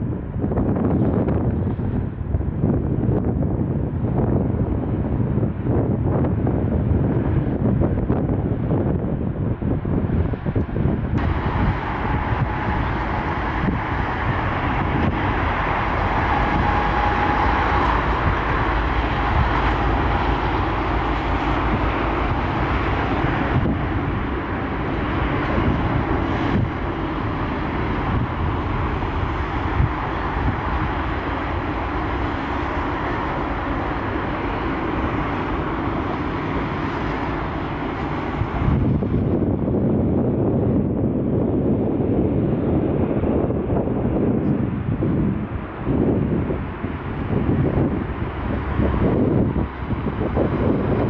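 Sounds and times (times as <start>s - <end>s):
distant jet engines roaring: 0.0s - 51.0s.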